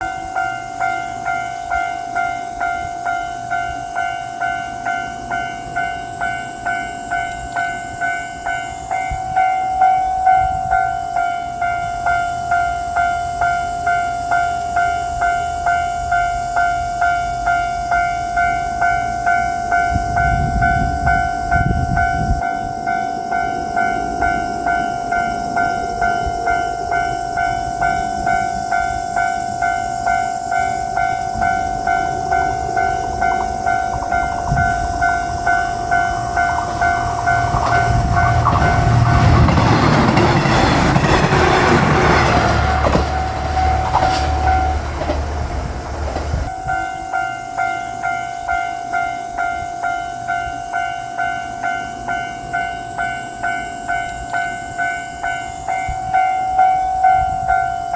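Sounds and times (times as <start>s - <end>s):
railroad crossing bell clanging: 0.0s - 57.9s
train rumbling past: 0.0s - 57.9s.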